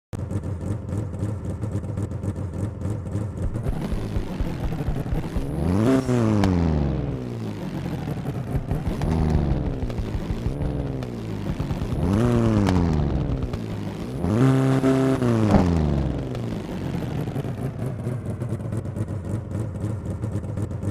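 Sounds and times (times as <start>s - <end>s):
car engine idling and revving: 0.2s - 20.9s.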